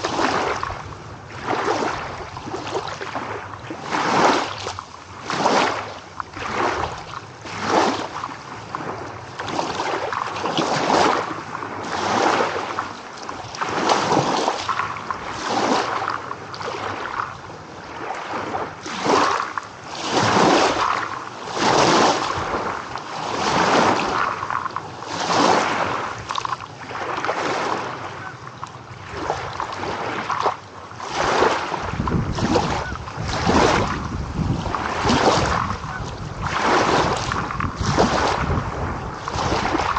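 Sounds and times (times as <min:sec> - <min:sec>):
ocean waves breaking on shore: 0:00.0 - 0:39.9
wind rumble on microphone: 0:00.0 - 0:39.9.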